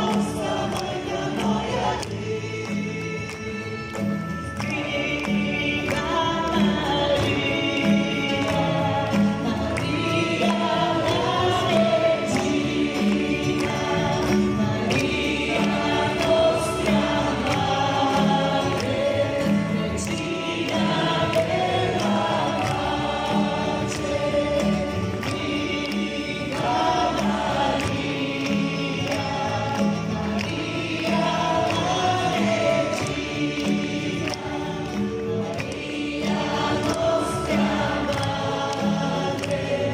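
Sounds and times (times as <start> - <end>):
crowd singing gospel song: 0.0 - 39.9
hands clapping: 0.0 - 39.9.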